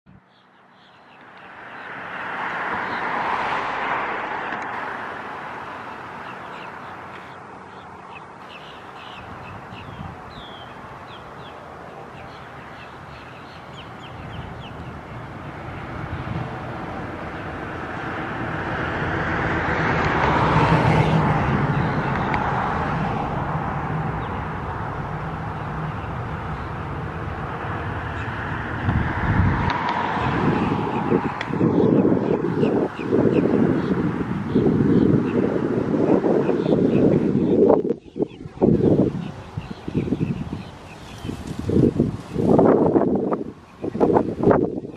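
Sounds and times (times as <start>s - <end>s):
passing traffic: 0.1s - 44.9s.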